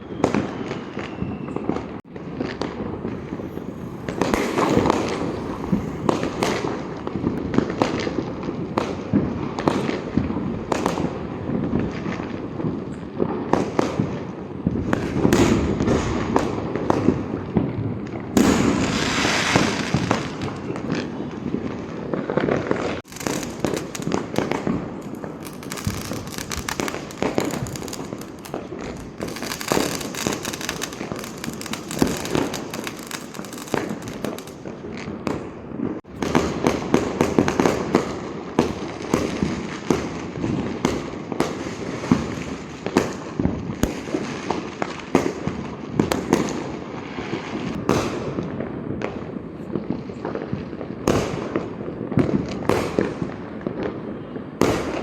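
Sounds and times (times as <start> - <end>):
firecrackers popping and banging: 0.0 - 55.0.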